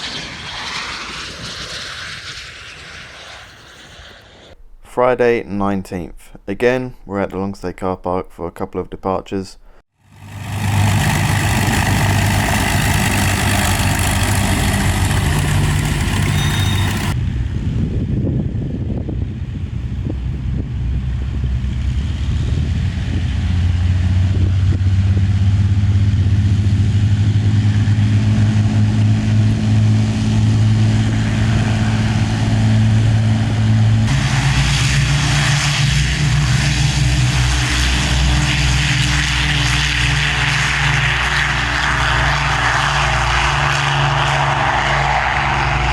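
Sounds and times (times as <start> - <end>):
propeller aircraft engine drone: 0.0 - 4.6, 9.9 - 45.9.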